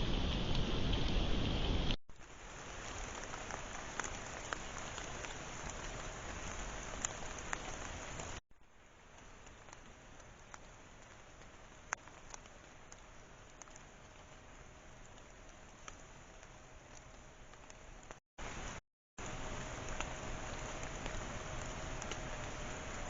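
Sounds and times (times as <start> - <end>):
rain hissing: 0.0 - 23.0
sharp drip ticks: 2.1 - 23.0.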